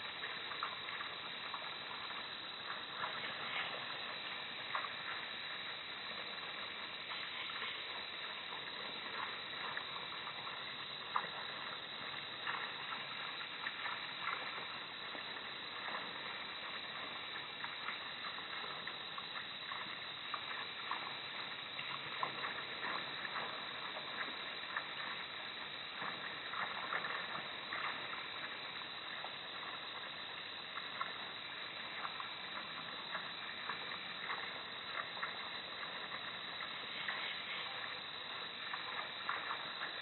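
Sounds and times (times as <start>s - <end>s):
outdoor night hiss: 0.0s - 40.0s.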